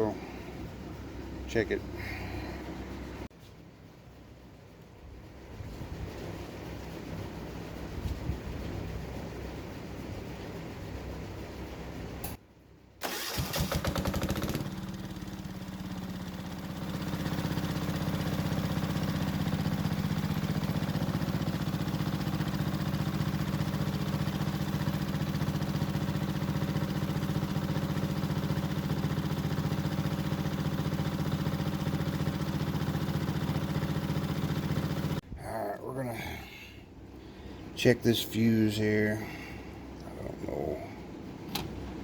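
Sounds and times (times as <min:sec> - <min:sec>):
diesel generator cranking and running: 0:00.0 - 0:03.3, 0:06.2 - 0:42.0.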